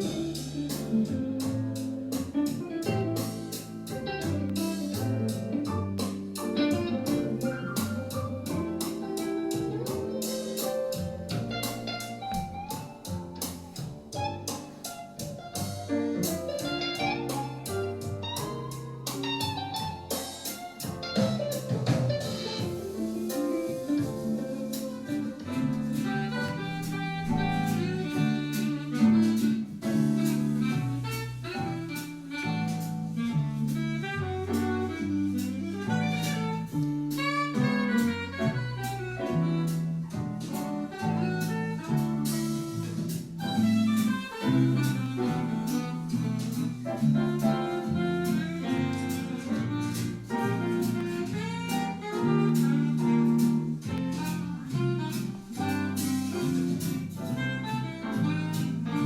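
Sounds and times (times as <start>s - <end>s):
instrumental music with bass line: 0.0s - 59.0s.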